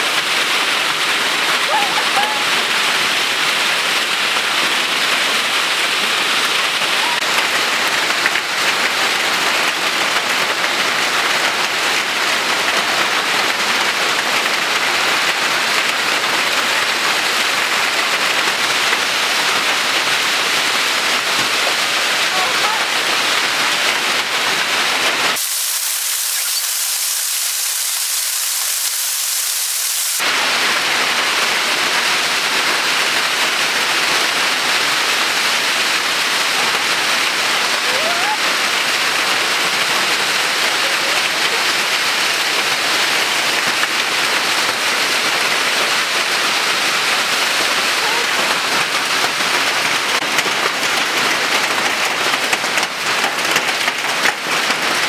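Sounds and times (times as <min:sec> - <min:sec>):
hail and heavy rain on roof: 0:00.0 - 0:55.0.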